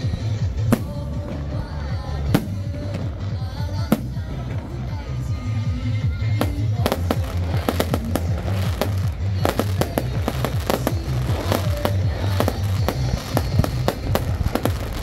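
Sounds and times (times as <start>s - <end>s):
fireworks bangs and crackles: 0.0s - 15.0s
music with pulsing beat: 0.0s - 15.0s.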